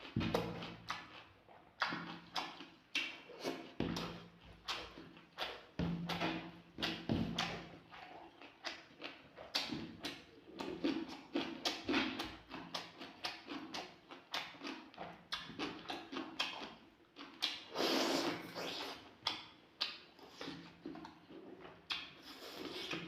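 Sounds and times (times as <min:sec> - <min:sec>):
wet chewing and lip smacks: 0:00.0 - 0:23.0.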